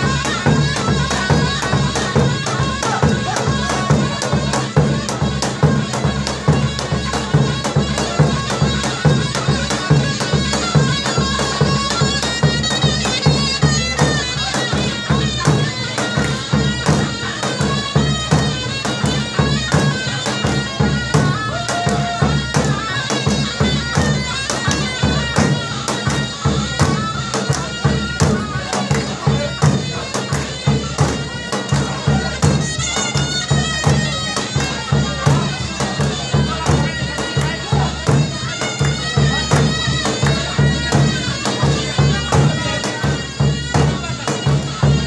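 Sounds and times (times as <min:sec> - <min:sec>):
large drum beat: 0:00.0 - 0:45.0.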